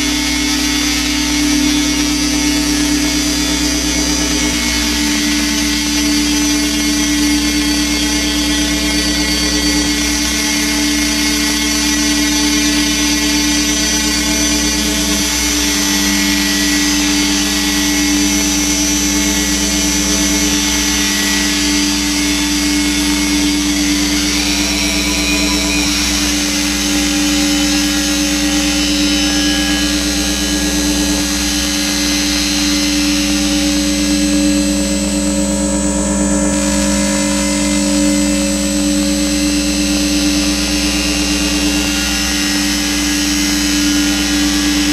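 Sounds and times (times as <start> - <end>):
low synth hum: 0.0 - 44.9.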